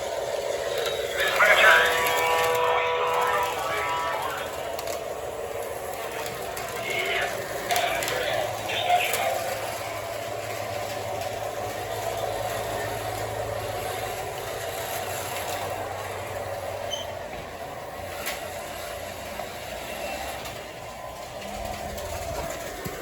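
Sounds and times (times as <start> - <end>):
diesel engine sound: 0.0 - 23.0
model train wheel rumble: 0.0 - 23.0.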